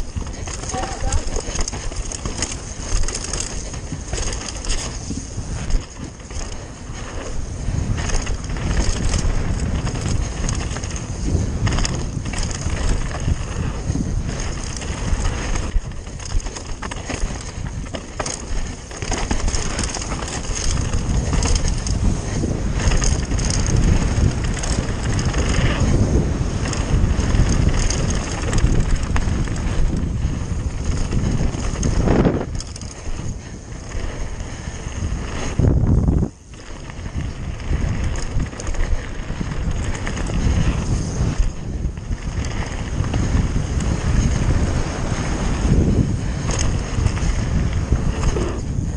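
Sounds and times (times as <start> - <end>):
bike rattling over bumps: 0.0 - 48.9
bike tyres crunching over gravel: 0.0 - 48.9
wind on microphone: 0.0 - 48.9.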